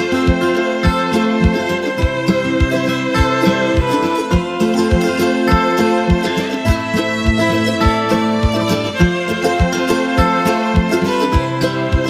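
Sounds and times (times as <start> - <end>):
held instrument notes: 0.0 - 12.0
steady beat: 0.0 - 12.0.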